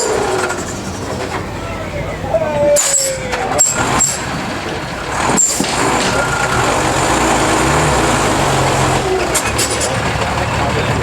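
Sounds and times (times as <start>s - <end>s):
diesel truck engine running hard: 0.0s - 11.0s.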